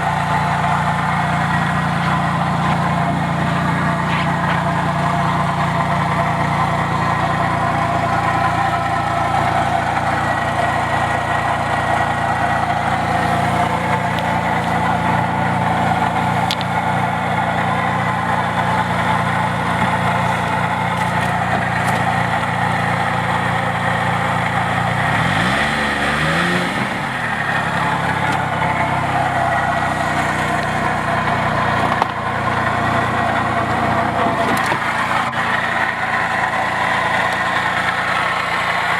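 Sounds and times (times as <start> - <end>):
snowmobile engine idling: 0.0 - 38.9.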